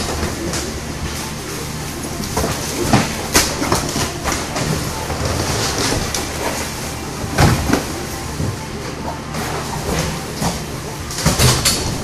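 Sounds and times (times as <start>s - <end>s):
roller conveyor wheels rattling: 0.0s - 12.0s
steady low hum: 0.0s - 12.0s.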